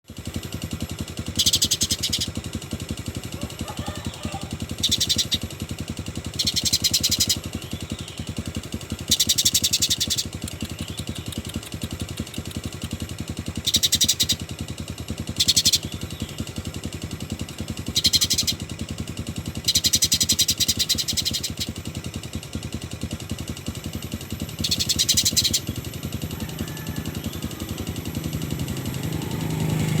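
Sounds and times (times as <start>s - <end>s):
low engine-like hum: 0.1s - 30.0s
songbird chattering trills: 0.8s - 22.8s, 24.4s - 28.2s.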